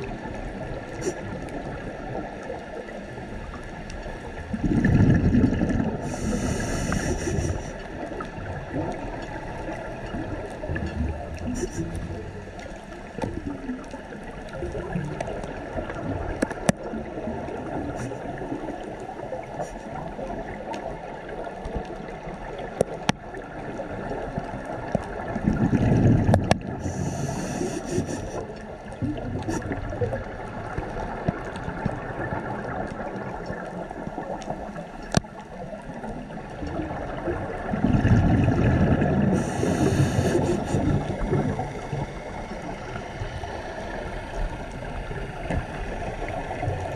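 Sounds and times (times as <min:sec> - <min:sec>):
low rushing water with hiss: 0:00.0 - 0:21.8, 0:23.4 - 0:46.9
muffled underwater water noise: 0:00.0 - 0:46.9.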